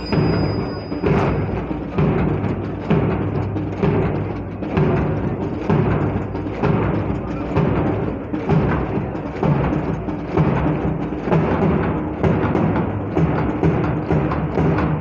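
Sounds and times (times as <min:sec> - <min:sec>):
military march music: 0:00.0 - 0:15.0
steady drum beat: 0:00.0 - 0:15.0.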